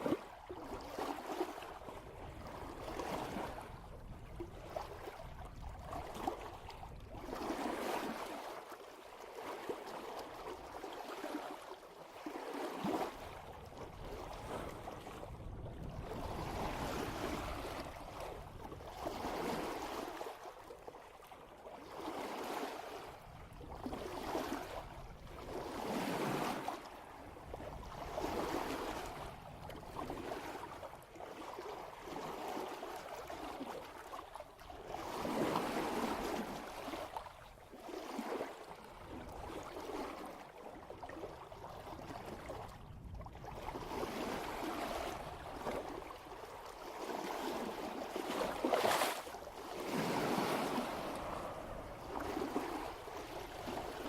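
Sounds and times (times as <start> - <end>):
water splashing along boat bow: 0.0 - 54.0.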